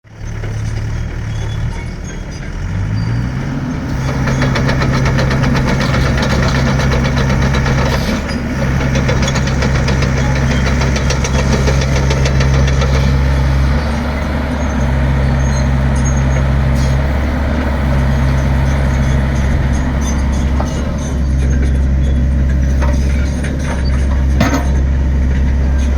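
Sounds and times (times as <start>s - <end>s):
excavator diesel engine revving: 0.0s - 25.9s.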